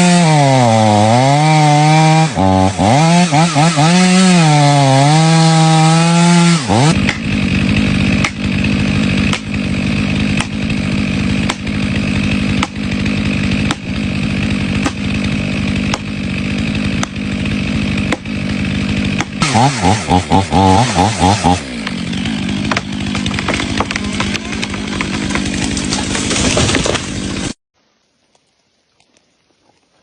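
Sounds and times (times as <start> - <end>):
chainsaw cutting tree trunk: 0.0 - 27.6.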